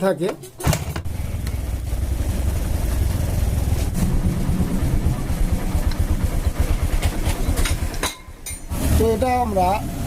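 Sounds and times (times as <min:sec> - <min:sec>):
motorcycle engine idling: 0:00.8 - 0:10.0.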